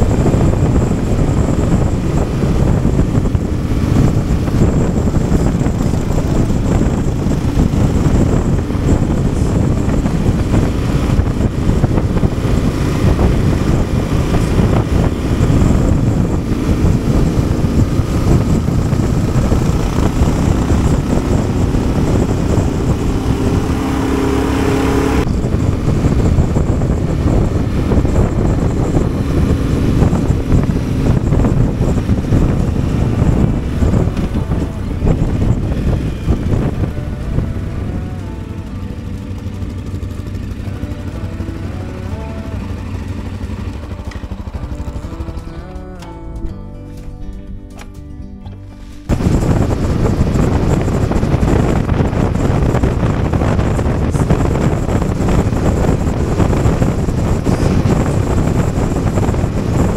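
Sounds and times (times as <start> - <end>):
wind buffeting microphone: 0.0 - 45.4, 49.0 - 59.9
motorcycle engine running: 0.0 - 47.9, 48.5 - 59.9.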